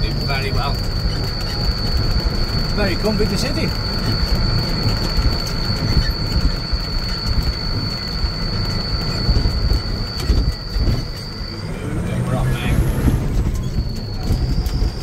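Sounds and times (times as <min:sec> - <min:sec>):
high-pitched whine: 0:00.0 - 0:15.0
tractor diesel engine rumbling: 0:00.0 - 0:15.0.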